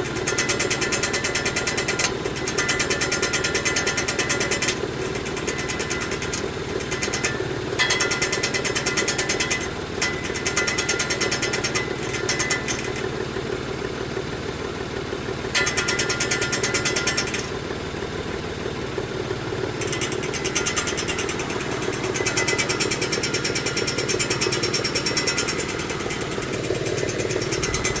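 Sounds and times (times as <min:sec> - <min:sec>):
high ticking rattle: 0:00.0 - 0:14.0, 0:15.5 - 0:17.6, 0:19.2 - 0:28.0
car engine running: 0:00.0 - 0:28.0.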